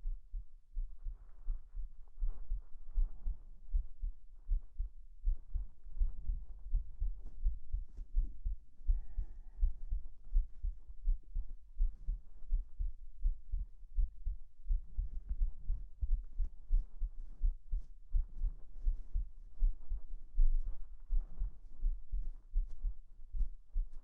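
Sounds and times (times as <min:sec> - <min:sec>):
muffled heartbeat: 0:00.0 - 0:24.0.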